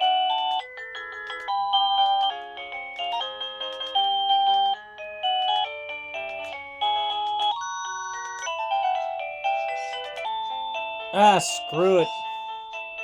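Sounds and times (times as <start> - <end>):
electronic doorbell chime tune: 0.0 - 13.0.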